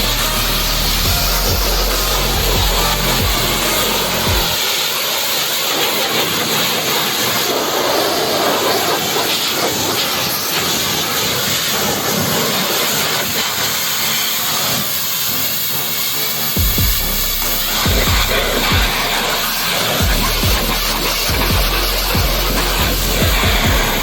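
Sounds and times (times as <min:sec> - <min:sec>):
pressure washer spraying water: 0:00.0 - 0:24.0.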